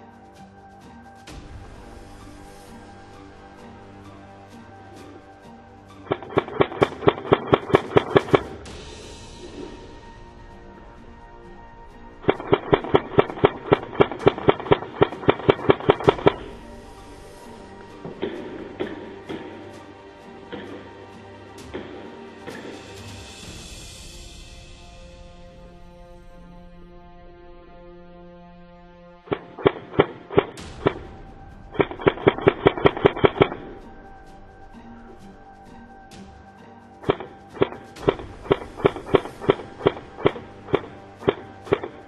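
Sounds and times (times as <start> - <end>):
background music drone: 0.0 - 42.0.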